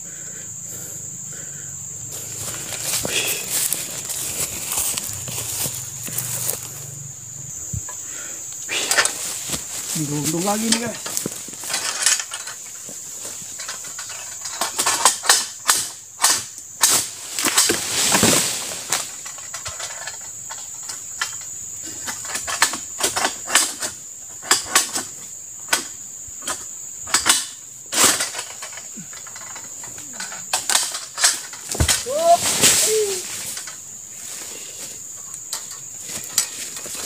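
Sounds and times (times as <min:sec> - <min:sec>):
sickle clacking on frond stalks: 0:02.2 - 0:06.7, 0:08.8 - 0:34.4.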